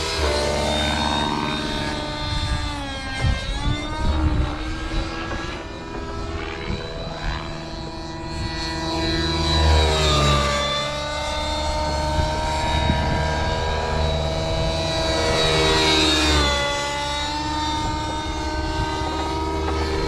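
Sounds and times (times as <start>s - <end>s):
model helicopter engine: 0.0s - 20.0s
rotor noise: 0.0s - 20.0s.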